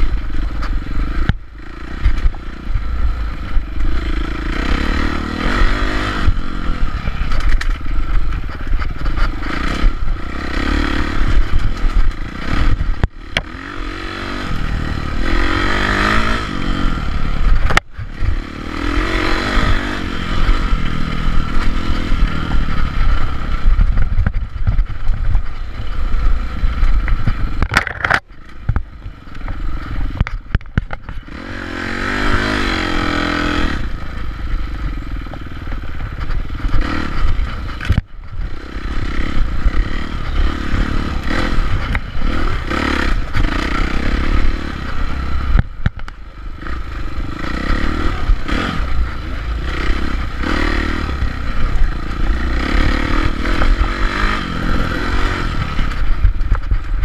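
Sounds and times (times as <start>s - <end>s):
bike knocking and rattling: 0.0s - 57.0s
dirt bike engine revving: 0.0s - 57.0s.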